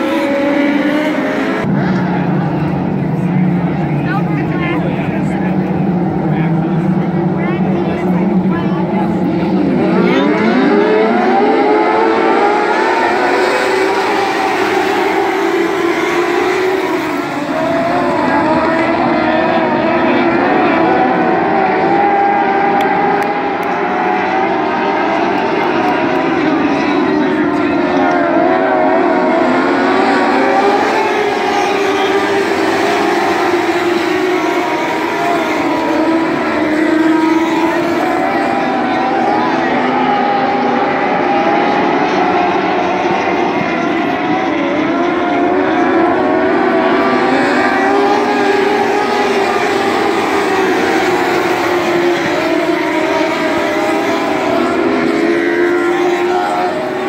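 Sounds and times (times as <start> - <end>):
race car engines at high revs: 0.0 - 57.0.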